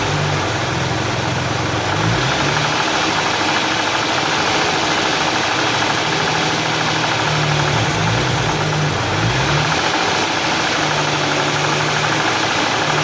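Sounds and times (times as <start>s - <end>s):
car engine idling: 0.0s - 13.0s
fast even ticking: 2.0s - 13.0s.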